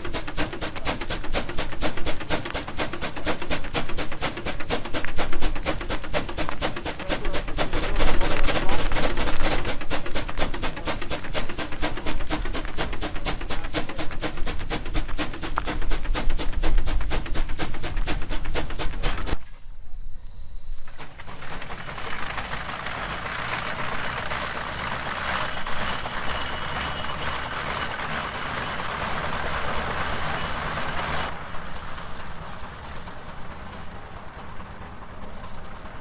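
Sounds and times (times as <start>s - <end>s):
steam hissing: 0.0s - 36.0s.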